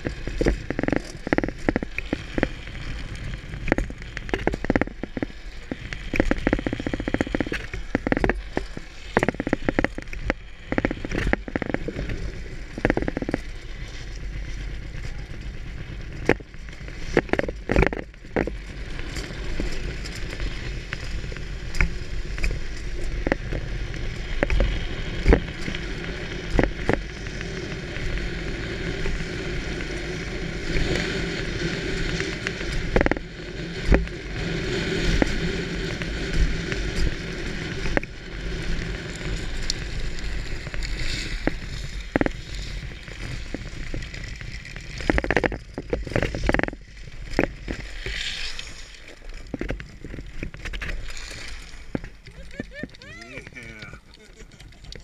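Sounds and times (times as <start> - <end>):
sharp crackles and clacks: 0.0 - 55.0
wheels rumbling on road: 0.0 - 55.0.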